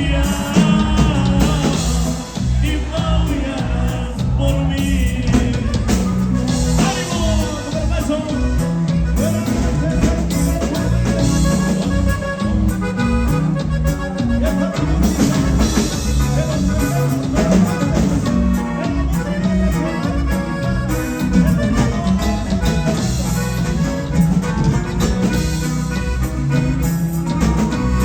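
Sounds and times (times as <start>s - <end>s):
bass: 0.0s - 28.0s
button accordion melody: 0.0s - 28.0s
drums with steady beat: 0.0s - 28.0s.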